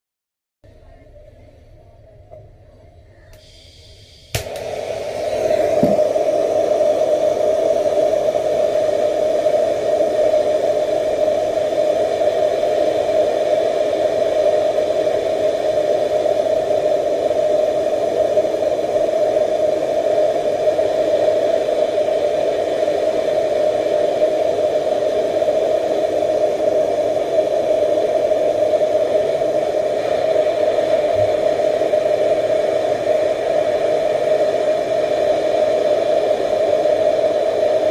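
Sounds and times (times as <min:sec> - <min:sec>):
blowtorch flame hissing: 0:03.3 - 0:37.9.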